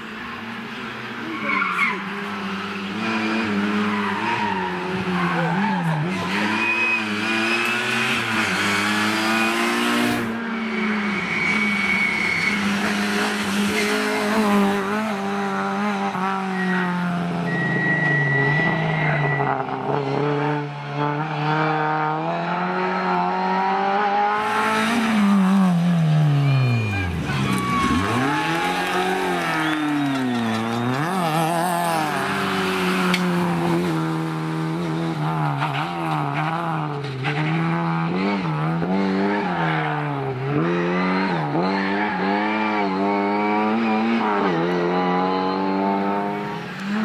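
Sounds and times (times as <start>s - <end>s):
rally car engines revving hard: 0.6s - 47.0s.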